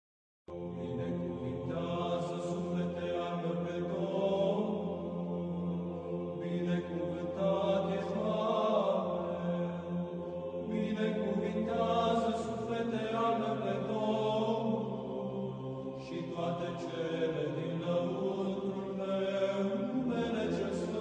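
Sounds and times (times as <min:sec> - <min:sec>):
choir chanting long notes: 0:00.5 - 0:21.0.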